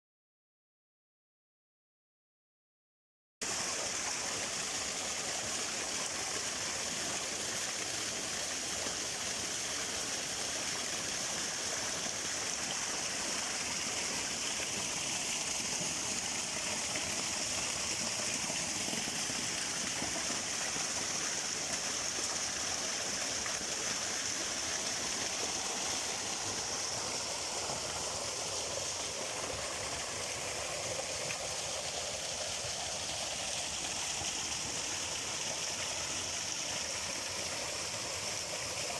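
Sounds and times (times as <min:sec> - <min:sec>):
stream water rushing: 0:03.4 - 0:38.9.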